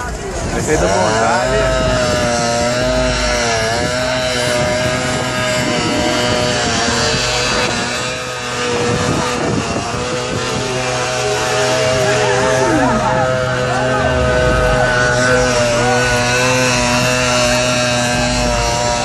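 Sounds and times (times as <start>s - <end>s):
vehicle engine revving high: 0.0s - 19.0s.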